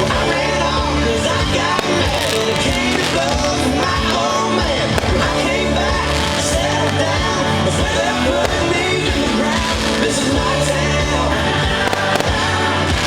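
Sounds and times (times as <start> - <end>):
song with band over loudspeakers: 0.0 - 13.0.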